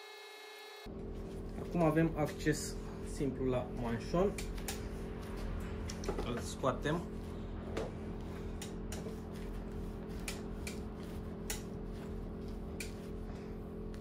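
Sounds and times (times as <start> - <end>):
steady low hum: 0.8 - 14.0.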